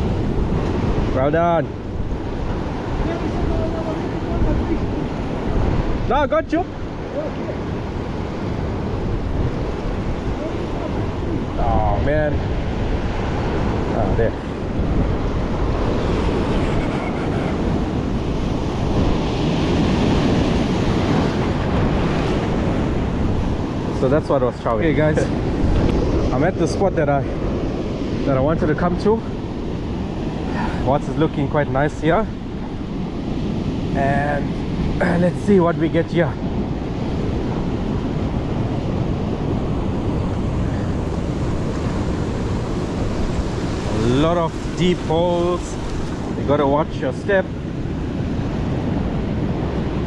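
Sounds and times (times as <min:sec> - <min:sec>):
surf breaking on rocky shore: 0:00.0 - 0:50.0
wind buffeting microphone: 0:00.0 - 0:50.0.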